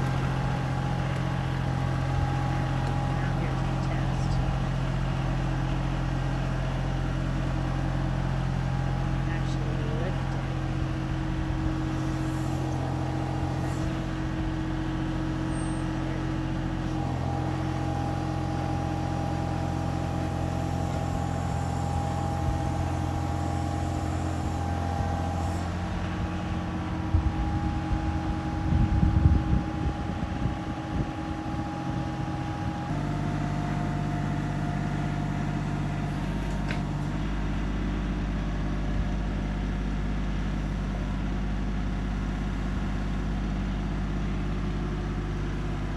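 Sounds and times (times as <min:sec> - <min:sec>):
small tractor engine running: 0:00.0 - 0:45.9.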